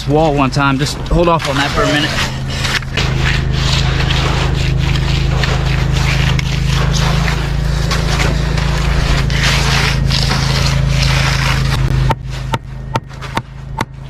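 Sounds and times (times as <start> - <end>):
engine humming: 0.0 - 14.0
tool scraping wet concrete: 0.0 - 14.0.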